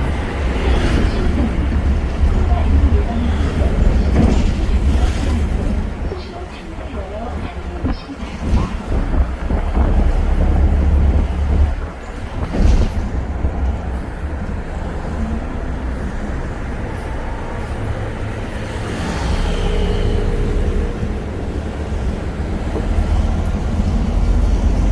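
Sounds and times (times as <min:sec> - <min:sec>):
bus engine and road rumble: 0:00.0 - 0:24.9.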